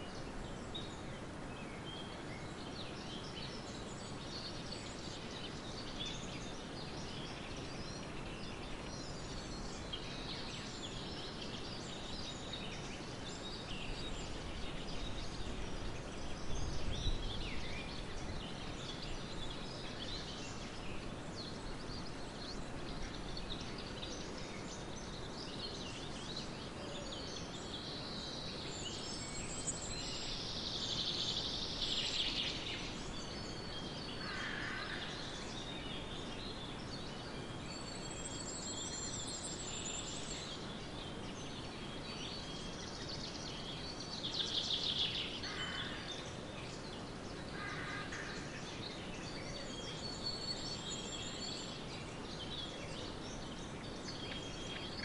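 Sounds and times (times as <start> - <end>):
birds calling and chirping: 0.0 - 55.0
steady background hiss: 0.0 - 55.0.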